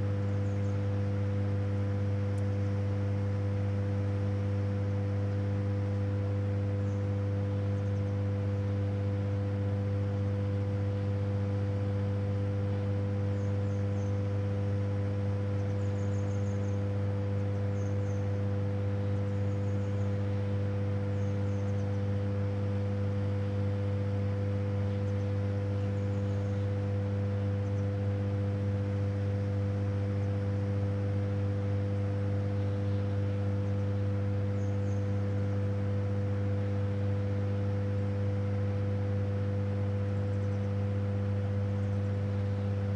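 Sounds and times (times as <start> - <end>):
deep electrical hum: 0.0 - 42.9.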